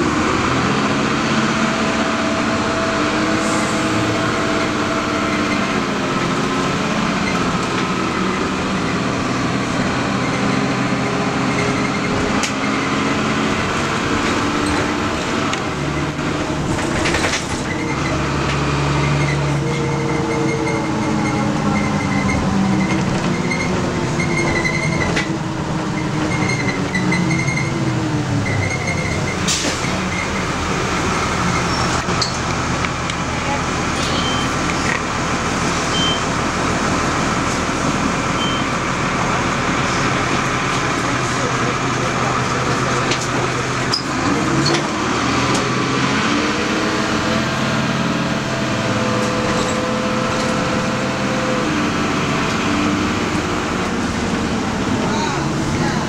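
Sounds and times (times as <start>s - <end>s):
bus engine droning: 0.0s - 56.0s
road noise: 0.0s - 56.0s.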